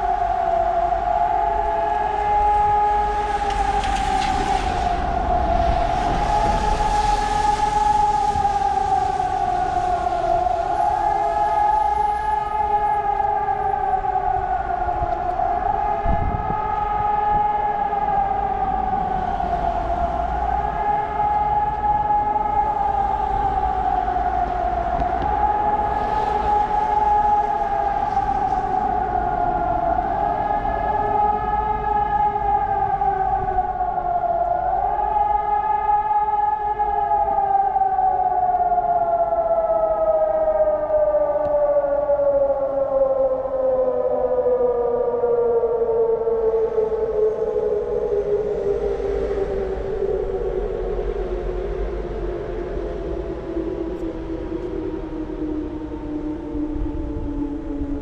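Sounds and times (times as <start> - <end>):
warning siren wailing: 0.0 - 58.0.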